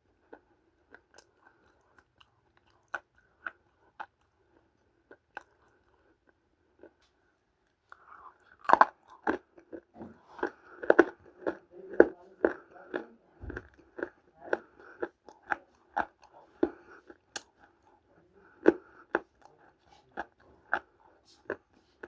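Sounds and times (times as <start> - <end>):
person chewing crunchy clay: 0.1 - 22.0.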